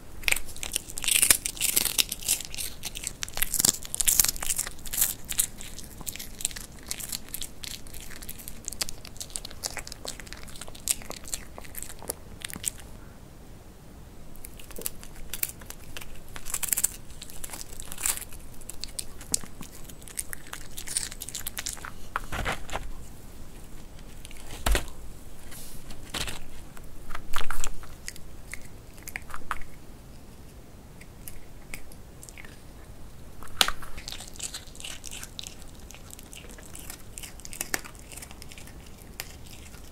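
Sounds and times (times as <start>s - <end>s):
dog crunching dried chips: 0.2s - 12.9s, 14.4s - 32.6s, 33.4s - 39.9s.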